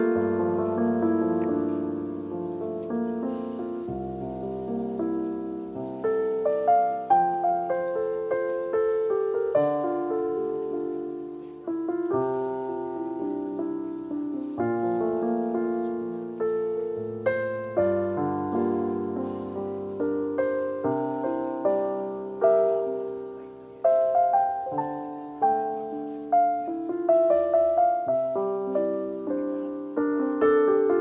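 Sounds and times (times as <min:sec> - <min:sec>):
solo piano melody: 0:00.0 - 0:31.0.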